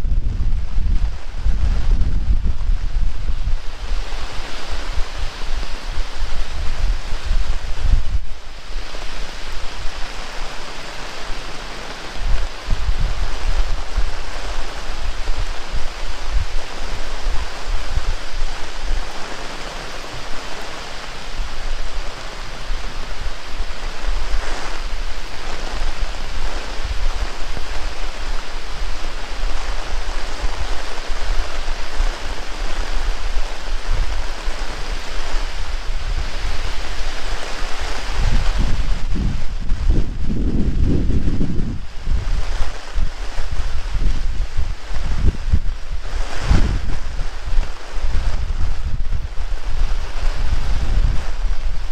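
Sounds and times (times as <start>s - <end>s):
heavy rain: 0.0s - 51.9s
wind buffeting microphone: 0.0s - 51.9s.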